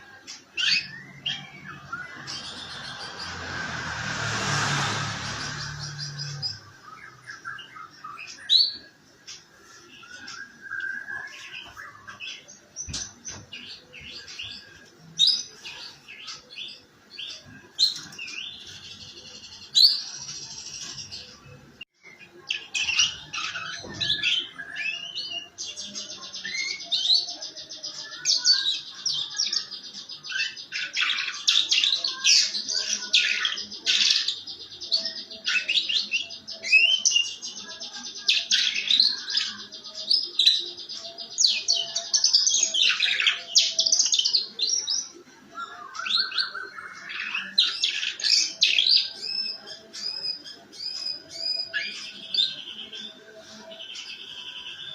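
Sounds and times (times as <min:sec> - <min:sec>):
canary singing chirps and trills: 0:00.0 - 0:54.9.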